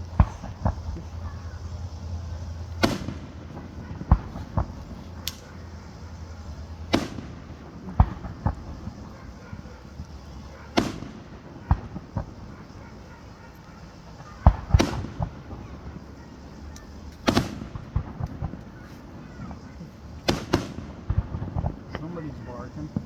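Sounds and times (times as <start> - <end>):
small firework thumps: 0.0 - 1.5, 2.6 - 23.0
fireworks bursting: 0.0 - 23.0
fireworks crackling: 0.0 - 23.0.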